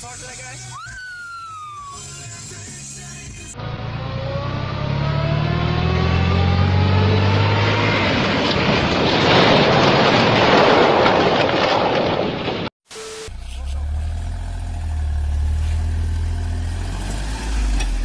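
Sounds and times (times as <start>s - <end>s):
heavy vehicle running: 3.2s - 18.0s.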